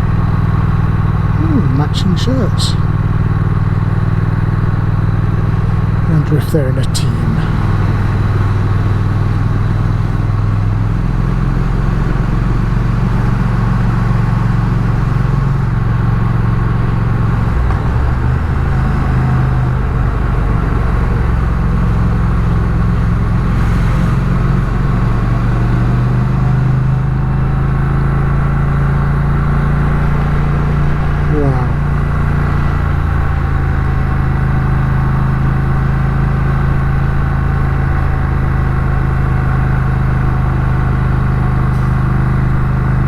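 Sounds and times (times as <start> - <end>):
motorcycle engine running: 0.0 - 43.0
wind and road noise: 0.0 - 43.0.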